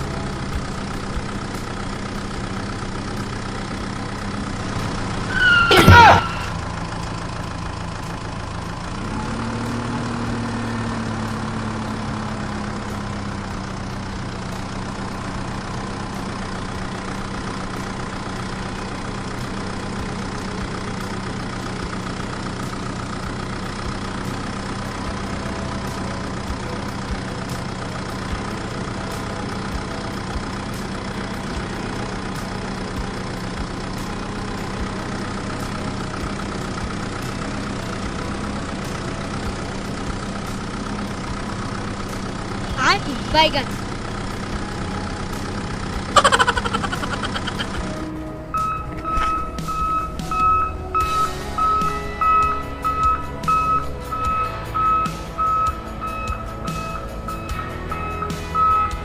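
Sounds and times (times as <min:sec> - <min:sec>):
mini tractor engine humming: 0:00.0 - 0:59.0.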